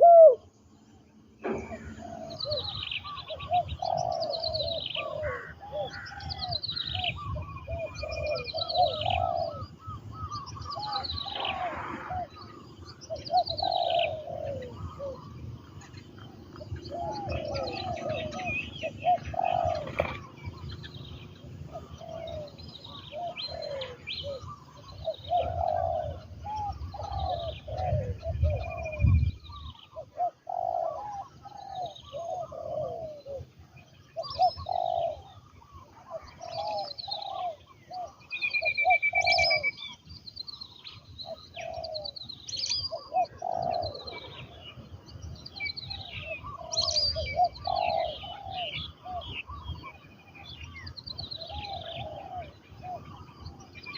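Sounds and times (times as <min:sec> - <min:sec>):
dove cooing: 0:00.0 - 0:00.5, 0:01.4 - 0:39.9, 0:41.2 - 0:53.9
small birds chirping: 0:00.0 - 0:53.9.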